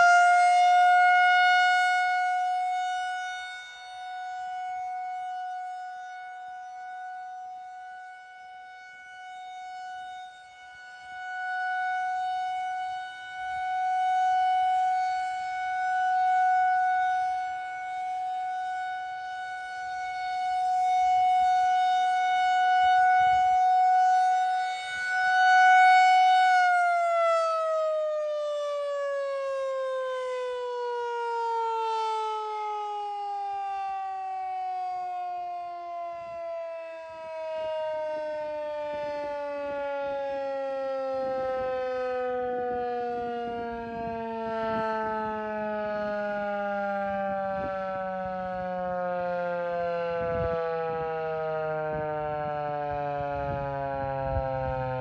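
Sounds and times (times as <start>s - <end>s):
rotating siren high tone: 0.0s - 55.0s.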